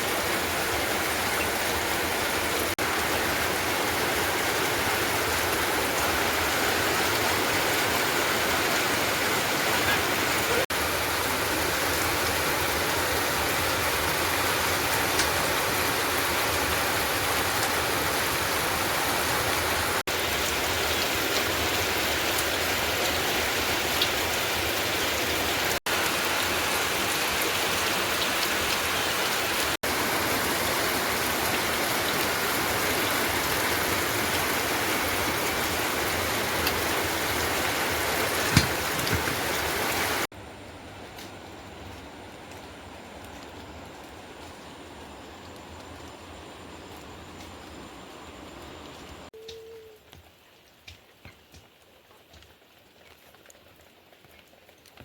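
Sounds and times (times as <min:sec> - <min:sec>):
heavy rain: 0:00.0 - 0:50.9.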